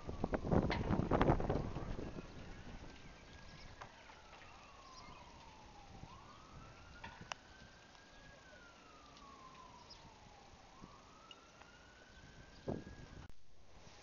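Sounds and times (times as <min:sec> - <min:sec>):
faint siren wailing: 0:00.0 - 0:13.3.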